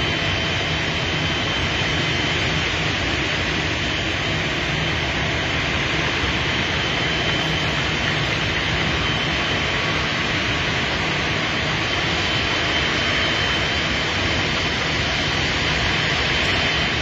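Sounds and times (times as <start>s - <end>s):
crane machinery droning: 0.0s - 17.0s
high machine whine: 0.0s - 17.0s.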